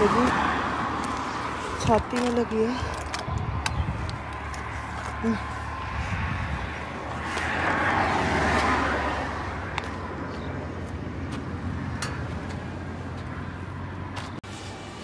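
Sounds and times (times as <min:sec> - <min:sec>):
road traffic hum: 0:00.0 - 0:15.0
vehicle passing close: 0:00.0 - 0:15.0.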